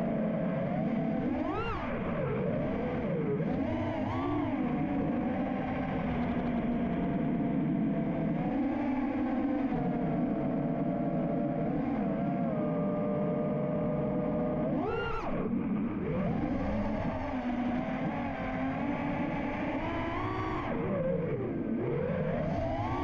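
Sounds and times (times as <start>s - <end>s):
drone motors whining: 0.1s - 23.0s.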